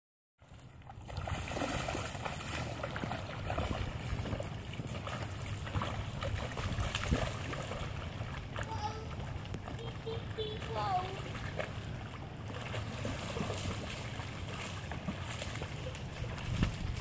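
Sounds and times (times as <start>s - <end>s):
boots splashing through puddle: 0.4s - 17.0s.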